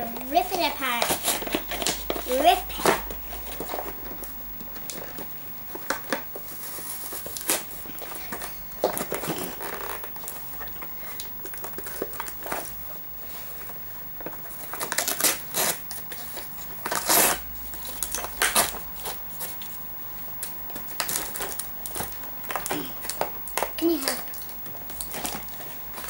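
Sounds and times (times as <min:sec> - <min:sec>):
cardboard and plastic tearing: 0:00.3 - 0:04.2, 0:04.8 - 0:12.8, 0:13.4 - 0:19.8, 0:20.7 - 0:26.0.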